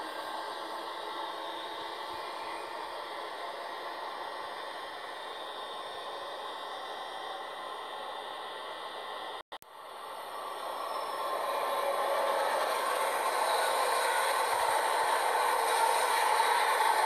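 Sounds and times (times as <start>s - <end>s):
railway platform ambience hiss: 0.0s - 17.0s.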